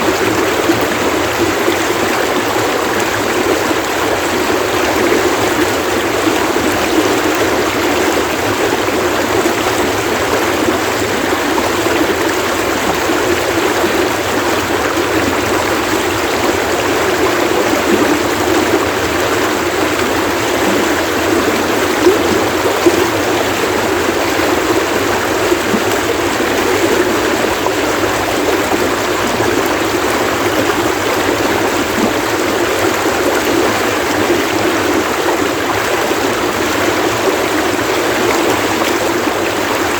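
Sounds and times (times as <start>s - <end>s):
stream rushing and gurgling: 0.0s - 39.9s.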